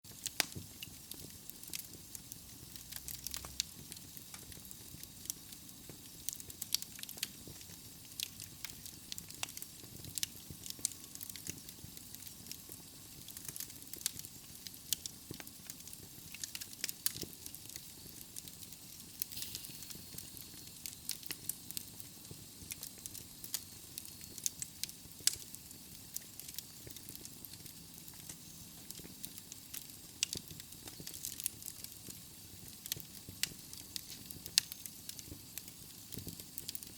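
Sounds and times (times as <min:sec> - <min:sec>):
wood fire crackling and popping: 0:00.1 - 0:36.9.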